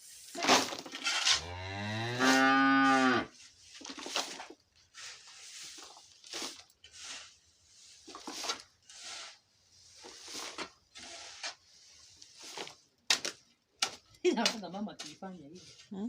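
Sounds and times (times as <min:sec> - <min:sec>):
dry rustling scrapes: 0:00.0 - 0:13.6, 0:14.6 - 0:16.0.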